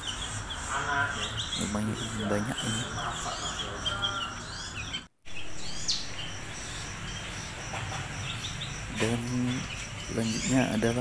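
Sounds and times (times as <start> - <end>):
songbirds chirping and twittering: 0.0 - 11.0.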